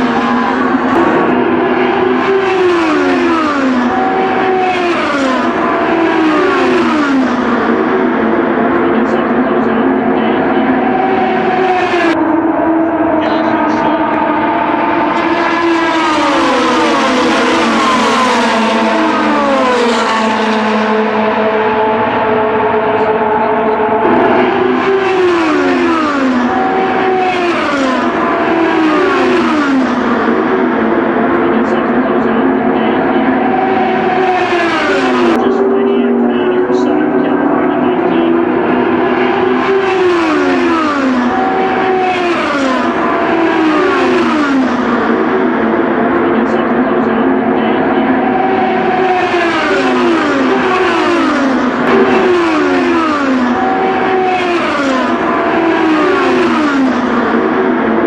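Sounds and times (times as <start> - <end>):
drone of race car engines: 0.0 - 58.0
race cars passing by: 0.0 - 58.0.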